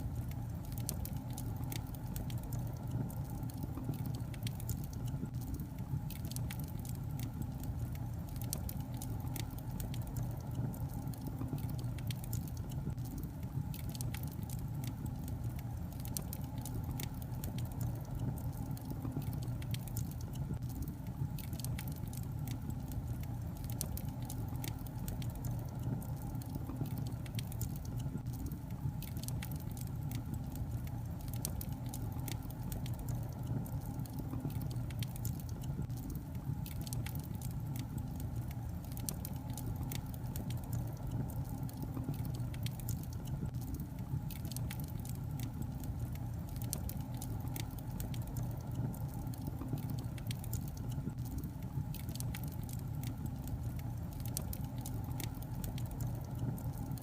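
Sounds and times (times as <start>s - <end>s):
fire rumbling: 0.0s - 57.0s
logs crackling and popping: 0.0s - 57.0s.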